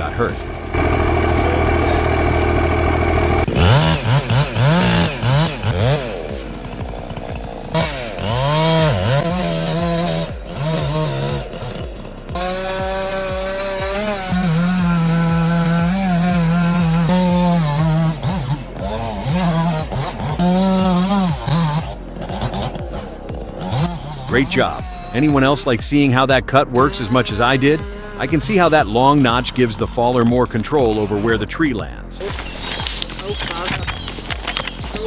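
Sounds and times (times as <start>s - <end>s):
chainsaw cutting wood: 0.0s - 29.5s, 32.2s - 35.0s.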